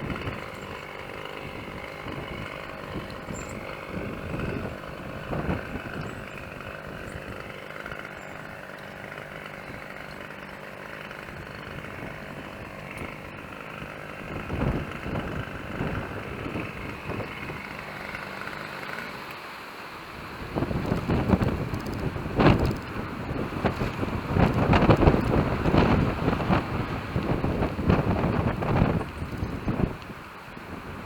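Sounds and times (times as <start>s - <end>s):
wind buffeting microphone: 0.0s - 18.7s, 20.1s - 31.0s
steady engine hum: 0.0s - 31.0s.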